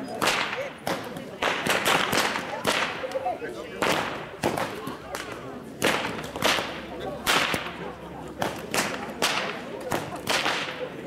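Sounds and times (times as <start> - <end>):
whips cracking: 0.1 - 3.2, 3.8 - 11.0.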